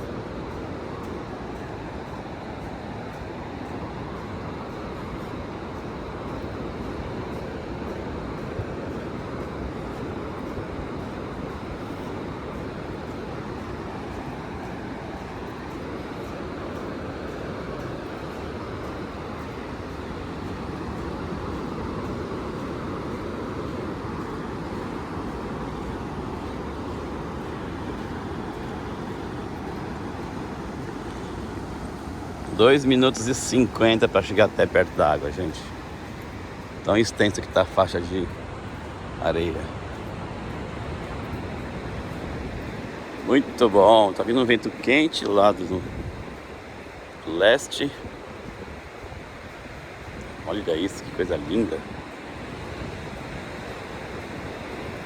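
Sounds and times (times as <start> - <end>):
distant surf: 0.0 - 55.0
footsteps on sand: 0.0 - 55.0
wind: 0.0 - 55.0.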